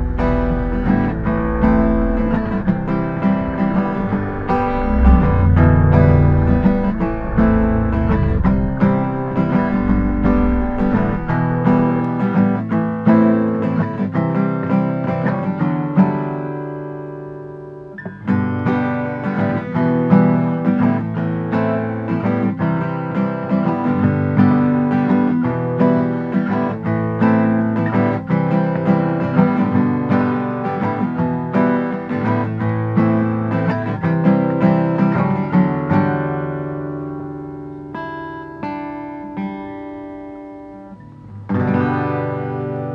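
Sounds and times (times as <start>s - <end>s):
guitar picking and strumming: 0.0s - 42.9s.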